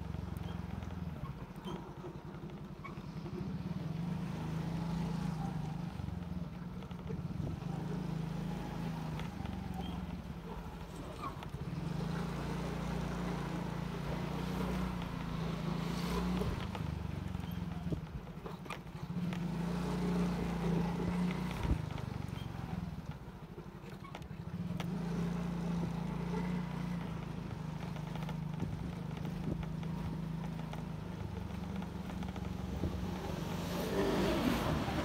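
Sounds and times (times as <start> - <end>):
motorcycle engine running: 0.0 - 35.0
motorcycle passing: 2.9 - 23.4, 24.1 - 35.0.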